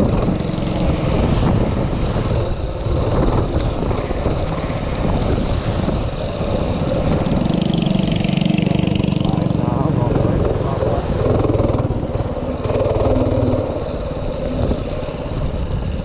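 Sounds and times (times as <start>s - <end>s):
minibike engine running: 0.0s - 16.0s.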